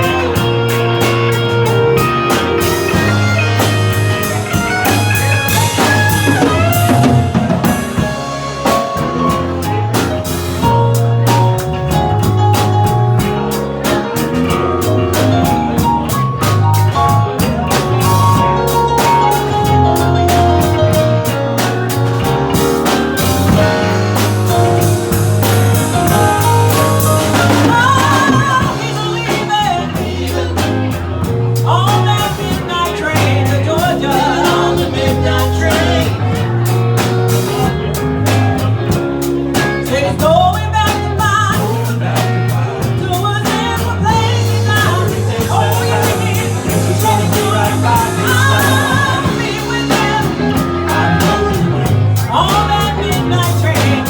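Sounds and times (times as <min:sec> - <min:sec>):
drum kit: 0:00.0 - 0:54.0
held bass notes: 0:00.0 - 0:54.0
lead singer singing: 0:00.0 - 0:54.0
live band playing: 0:00.0 - 0:54.0.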